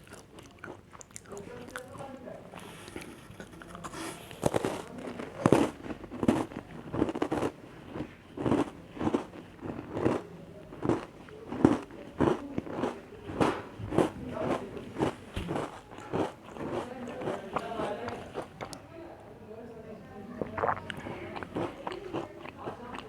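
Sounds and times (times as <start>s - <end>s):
chewing crunchy cookies: 0.0s - 18.8s, 20.4s - 23.0s.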